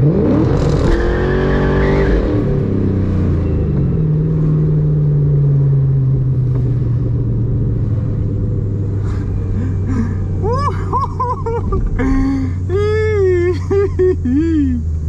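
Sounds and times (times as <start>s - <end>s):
car engine drone from cabin: 0.0s - 15.0s.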